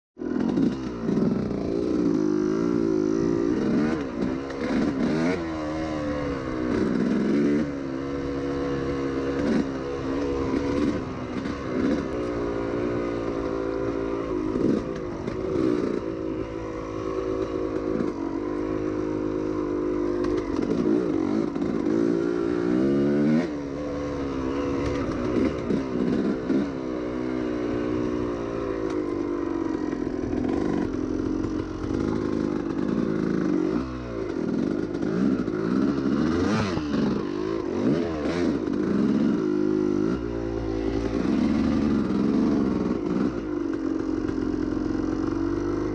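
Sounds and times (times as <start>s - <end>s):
dirt bike engine revving: 0.2s - 45.9s.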